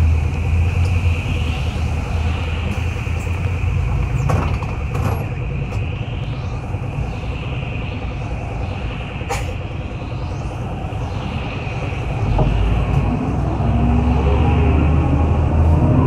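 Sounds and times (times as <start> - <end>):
bus engine and road noise: 0.0 - 16.0
high hum: 0.0 - 16.0
low rumble: 0.0 - 16.0.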